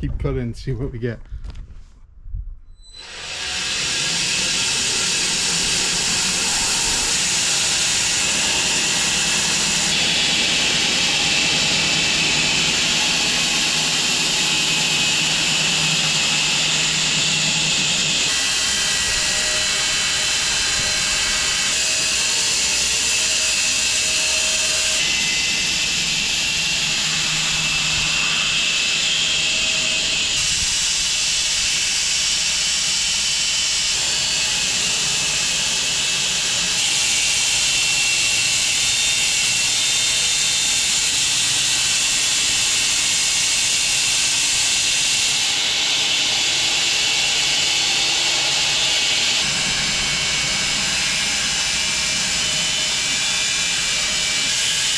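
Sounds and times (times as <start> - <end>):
sawmill cutting log: 3.0 - 54.9.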